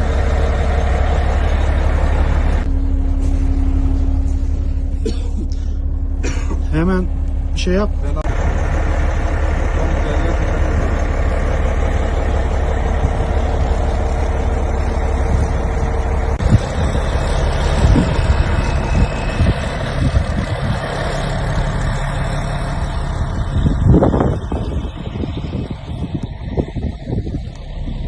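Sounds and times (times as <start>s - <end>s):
diesel machine engine running: 0.0s - 28.0s.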